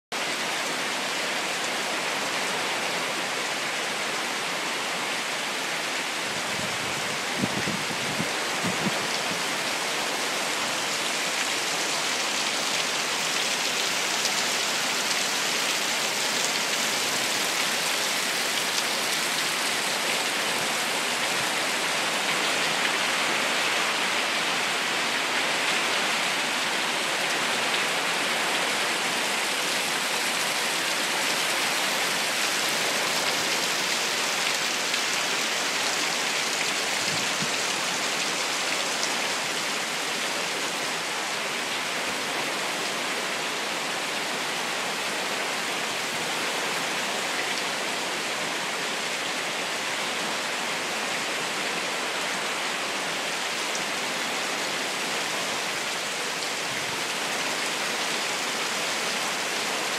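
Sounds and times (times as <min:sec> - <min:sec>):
heavy rain pouring: 0:00.2 - 0:59.9.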